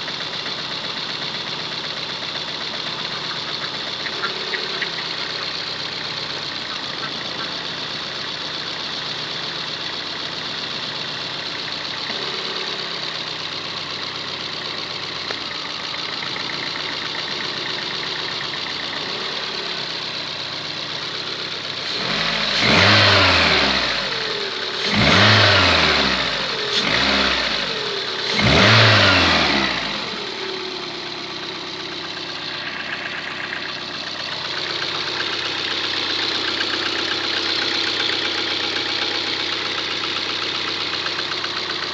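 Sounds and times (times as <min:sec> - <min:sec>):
car engine idling and revving: 0:00.0 - 0:41.9
engine knock: 0:00.0 - 0:41.9.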